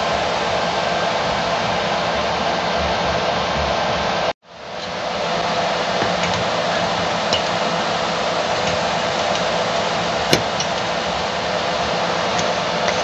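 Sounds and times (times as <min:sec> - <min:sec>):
cooling fan whirring: 0:00.0 - 0:13.0.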